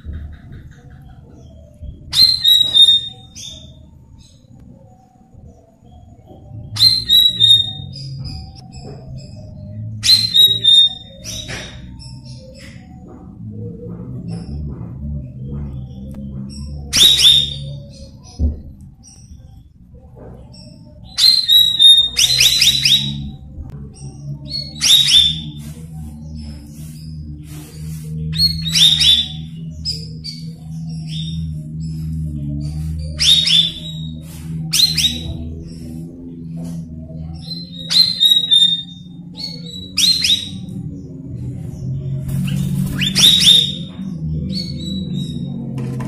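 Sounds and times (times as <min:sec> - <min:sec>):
bird whistling song: 0:00.0 - 0:13.2, 0:15.4 - 0:18.4, 0:20.4 - 0:41.1, 0:42.3 - 0:45.8
steady low hum: 0:00.0 - 0:46.0.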